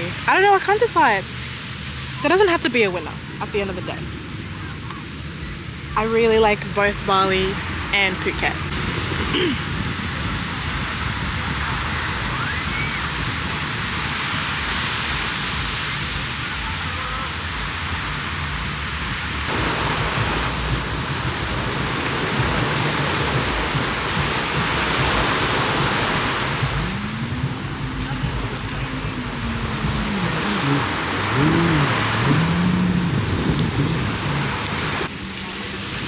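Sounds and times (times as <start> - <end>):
waves on a beach: 0.0 - 36.0
wind buffeting microphone: 0.0 - 36.0.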